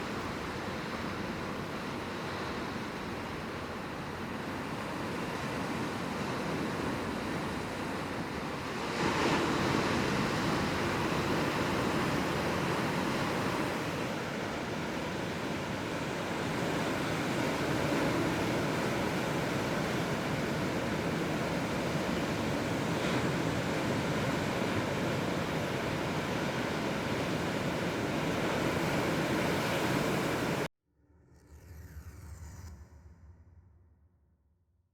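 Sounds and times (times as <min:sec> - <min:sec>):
ocean wave breaking: 0:00.0 - 0:30.7.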